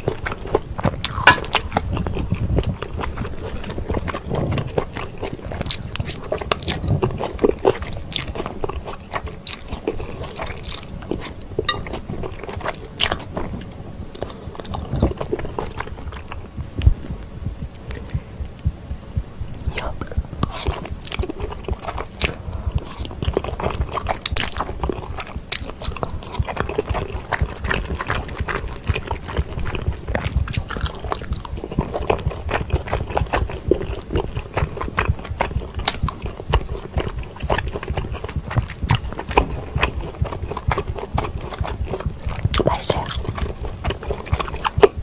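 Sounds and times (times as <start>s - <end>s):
wet chewing and slurping: 0.0s - 45.0s.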